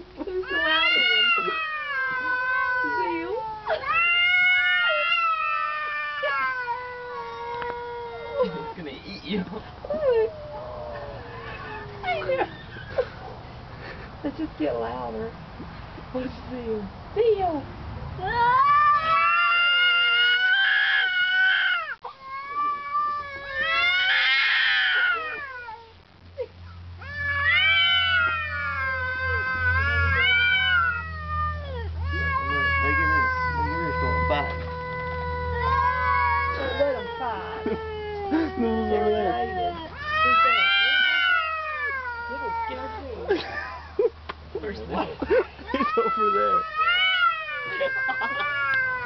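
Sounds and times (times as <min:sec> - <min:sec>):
cats yowling: 0:00.3 - 0:13.4, 0:18.2 - 0:44.0, 0:45.5 - 0:49.0.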